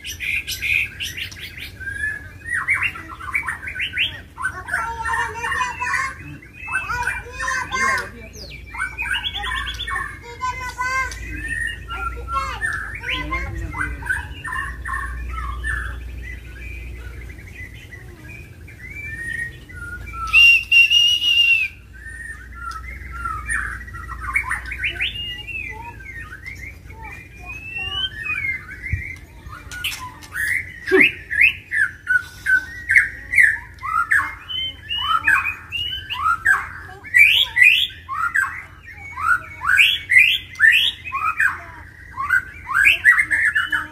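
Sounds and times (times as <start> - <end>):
birds singing: 0.0 - 43.9
harsh loud bird call: 0.0 - 43.9.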